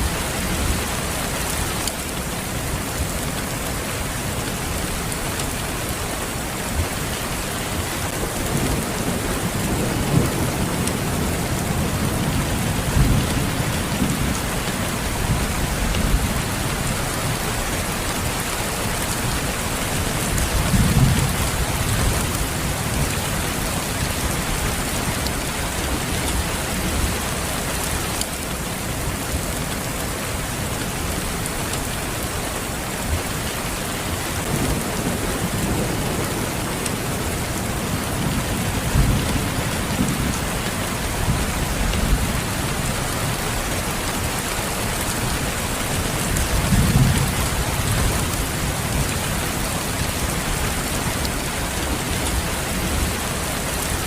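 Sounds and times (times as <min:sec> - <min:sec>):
heavy rainfall: 0:00.0 - 0:54.0.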